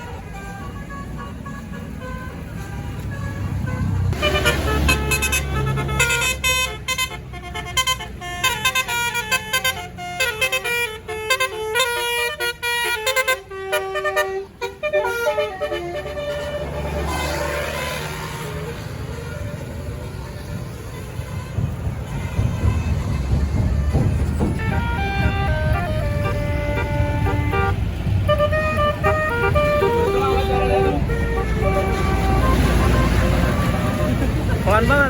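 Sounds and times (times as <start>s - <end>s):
bus engine running: 0.0s - 35.0s
bus horn playing fast melody: 0.0s - 35.0s.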